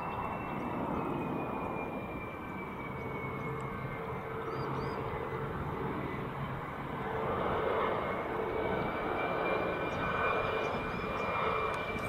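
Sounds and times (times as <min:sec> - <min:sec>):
jet airliner rumble with whine: 0:00.0 - 0:12.0.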